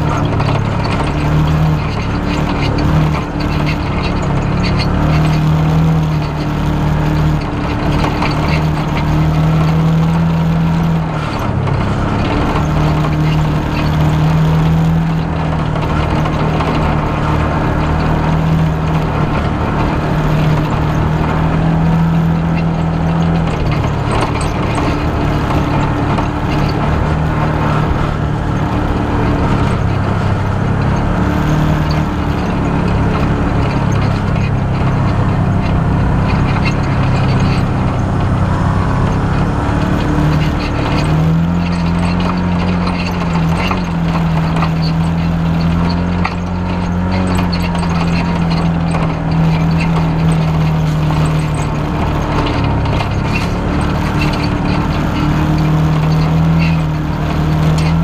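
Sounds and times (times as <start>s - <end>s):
vehicle engine under load: 0.0s - 58.0s
vehicle jolting over rough track: 0.0s - 58.0s.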